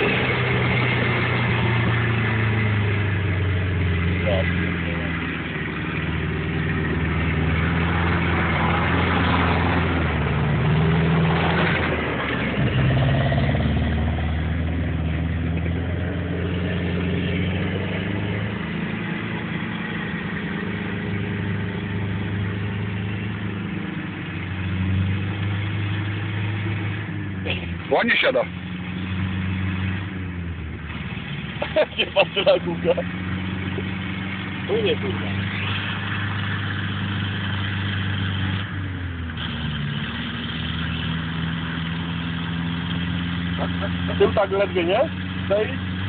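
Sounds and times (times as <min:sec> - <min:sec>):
off-road vehicle engine: 0:00.0 - 0:46.0.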